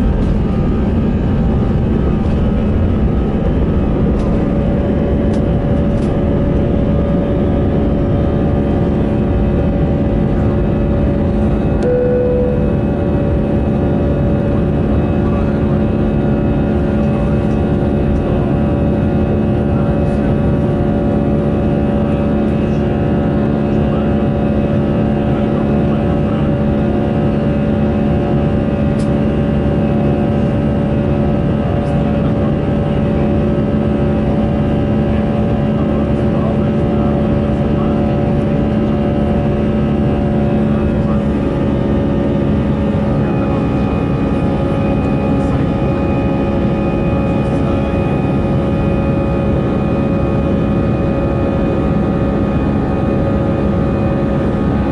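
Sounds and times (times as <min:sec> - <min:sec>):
airliner cabin engine rush: 0:00.0 - 0:54.9
steady humming tones: 0:00.0 - 0:54.9.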